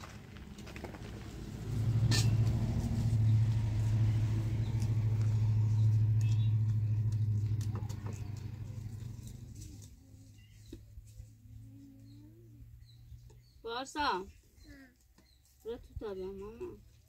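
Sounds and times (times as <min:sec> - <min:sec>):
vehicle engine humming: 0:00.0 - 0:14.1.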